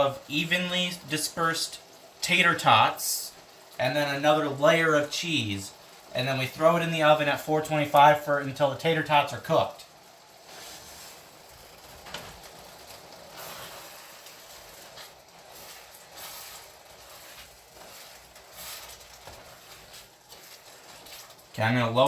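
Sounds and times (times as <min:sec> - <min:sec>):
sauce bubbling in a pan: 0:00.0 - 0:22.0.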